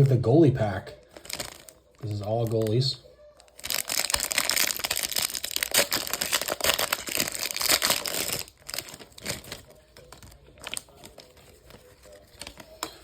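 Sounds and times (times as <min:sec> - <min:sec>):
cards rustling: 0:01.0 - 0:13.0
wrapper being torn and crinkled: 0:01.0 - 0:13.0.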